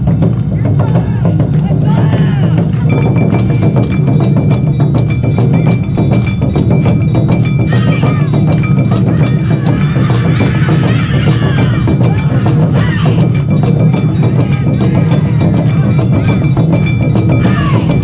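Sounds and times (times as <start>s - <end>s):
taiko drums beating: 0.0s - 18.0s
small metal gong ringing: 2.8s - 18.0s.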